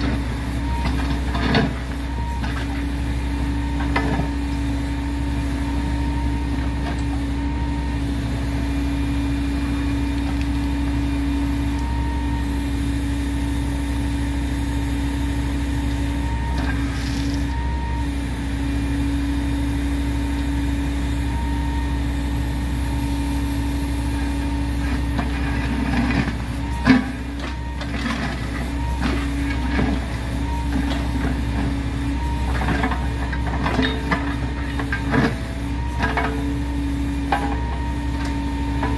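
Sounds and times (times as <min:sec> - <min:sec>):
heavy engine idling: 0:00.0 - 0:38.9.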